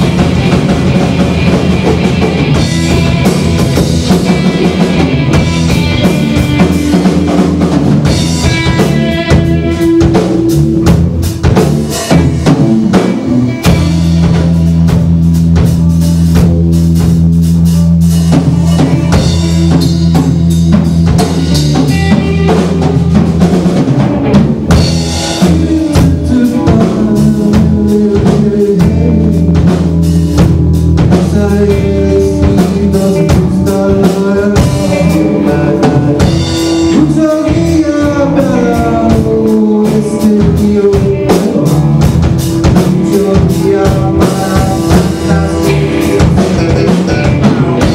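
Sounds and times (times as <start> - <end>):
bass guitar: 0.0 - 47.9
drum kit: 0.0 - 47.9
electric guitar bends: 0.0 - 47.9.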